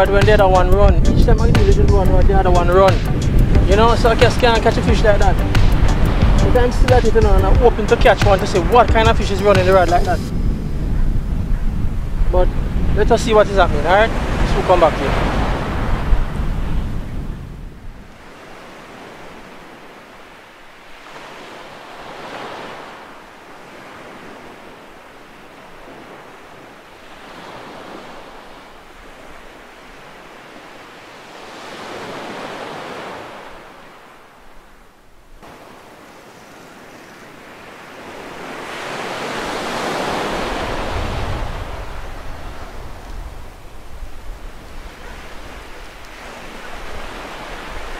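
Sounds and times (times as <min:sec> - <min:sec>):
waves breaking on sandy beach: 0:00.0 - 0:47.9.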